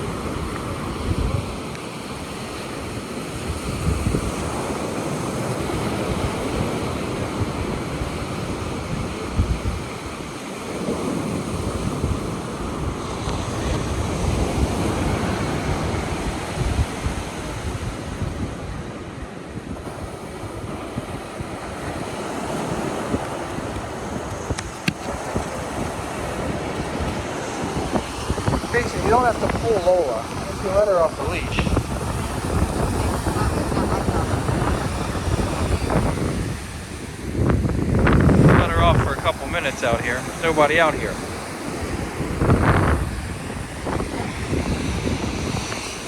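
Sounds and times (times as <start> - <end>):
ocean surf washing onto beach: 0.0 - 46.0
wind buffeting microphone: 0.0 - 46.0.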